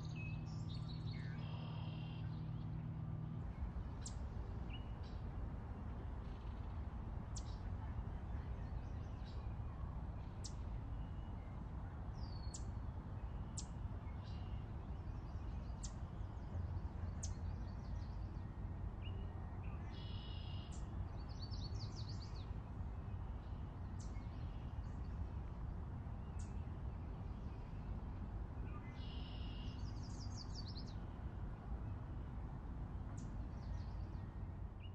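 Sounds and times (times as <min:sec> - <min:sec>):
low background rumble: 0:00.0 - 0:34.9.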